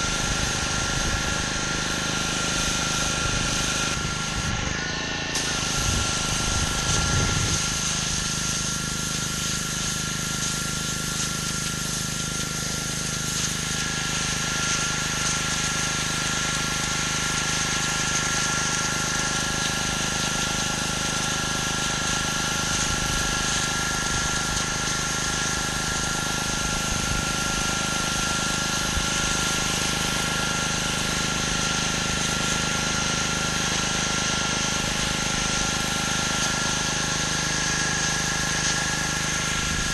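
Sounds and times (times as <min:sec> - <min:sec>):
pressure washer engine running: 0:00.0 - 0:39.9
water spraying on concrete: 0:00.0 - 0:39.9.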